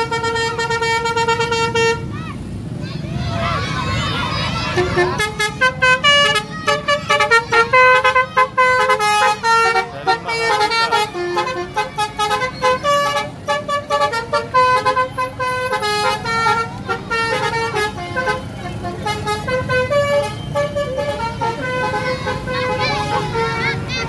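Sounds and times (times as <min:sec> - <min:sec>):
multi-tone bus horn tune: 0:00.0 - 0:02.1, 0:04.6 - 0:24.0
bus engine running: 0:00.0 - 0:24.0.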